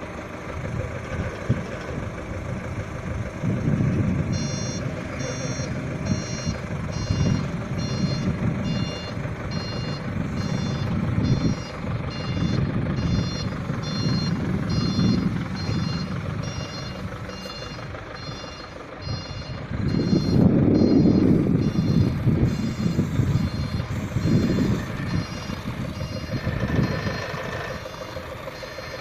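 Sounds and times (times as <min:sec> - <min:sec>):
forklift engine rumbling: 0:00.0 - 0:29.0
forklift warning beeper: 0:04.2 - 0:29.0.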